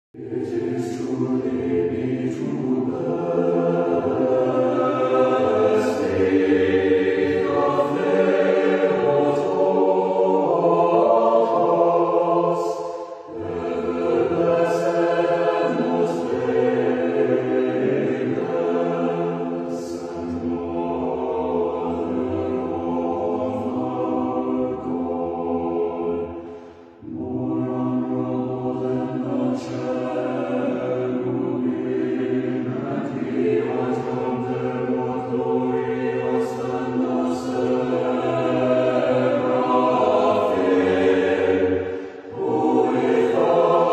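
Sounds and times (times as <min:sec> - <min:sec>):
choir singing chant: 0:00.2 - 0:43.9.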